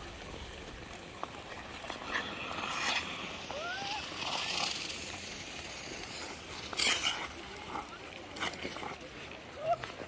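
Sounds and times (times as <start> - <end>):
ice skate blades scraping: 0.0 - 10.0.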